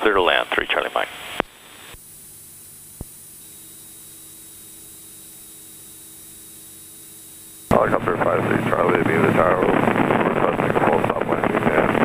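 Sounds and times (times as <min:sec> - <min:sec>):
faint hum: 0:00.0 - 0:12.0
radio static hiss: 0:00.0 - 0:12.0.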